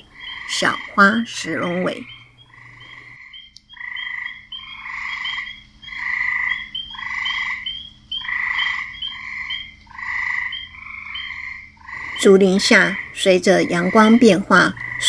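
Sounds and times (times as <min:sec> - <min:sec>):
frogs croaking: 0:00.0 - 0:15.0
high frog chirps: 0:00.0 - 0:15.0.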